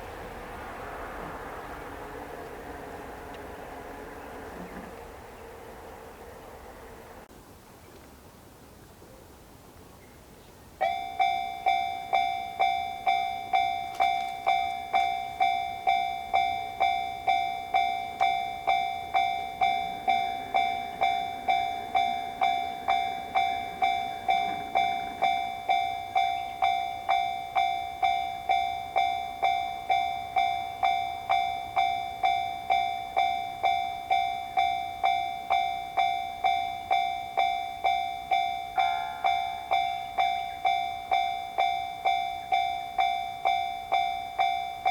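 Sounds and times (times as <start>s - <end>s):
railroad crossing bell: 0.0s - 7.3s, 10.8s - 44.9s.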